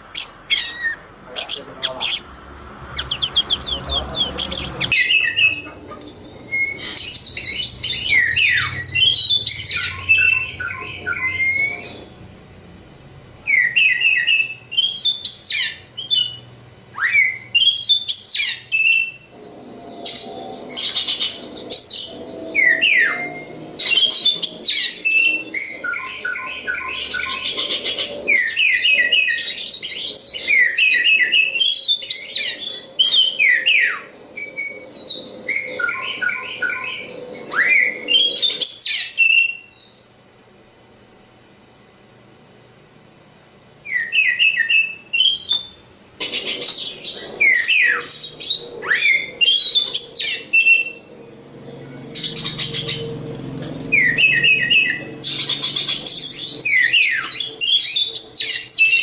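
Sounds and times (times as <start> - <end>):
songbird singing: 0.0 - 40.4, 43.8 - 59.0.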